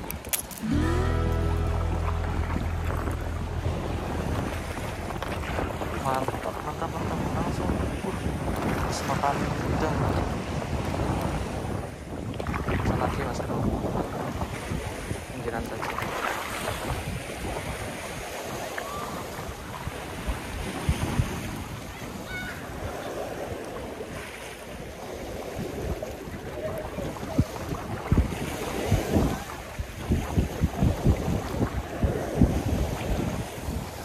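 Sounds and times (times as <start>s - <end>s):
waves lapping on rocky shore: 0.0s - 34.0s
wind buffeting microphone: 0.0s - 34.0s.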